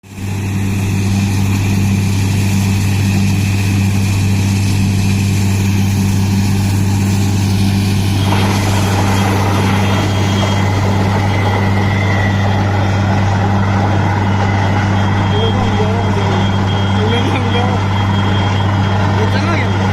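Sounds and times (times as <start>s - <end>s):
loud hissing noise: 0.0s - 16.8s
drilling rig engine drone: 0.0s - 19.9s.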